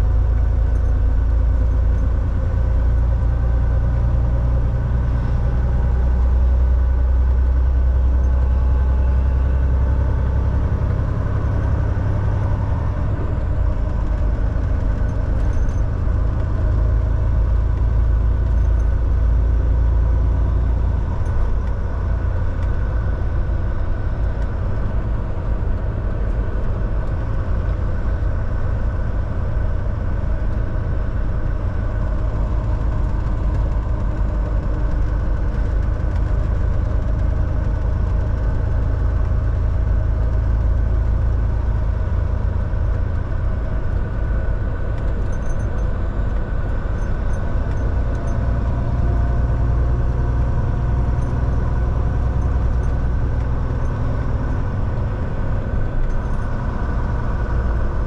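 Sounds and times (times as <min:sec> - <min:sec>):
diesel truck engine rumbling: 0:00.0 - 0:58.0.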